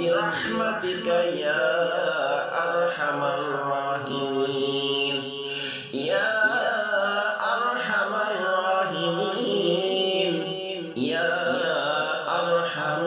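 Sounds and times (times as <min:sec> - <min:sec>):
person chanting in held notes: 0:00.0 - 0:13.0.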